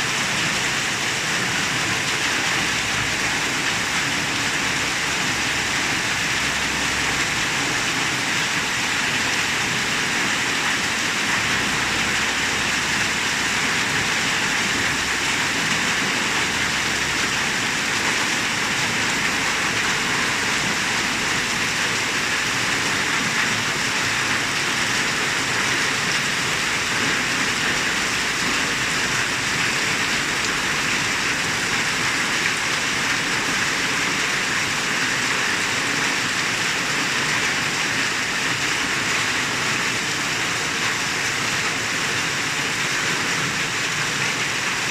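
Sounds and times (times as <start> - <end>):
rain pattering on surfaces: 0.0 - 44.9.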